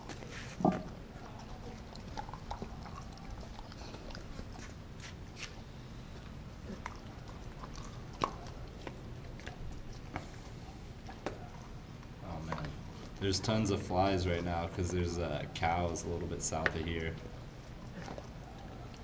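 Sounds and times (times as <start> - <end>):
dog chewing and licking: 0.0 - 19.0.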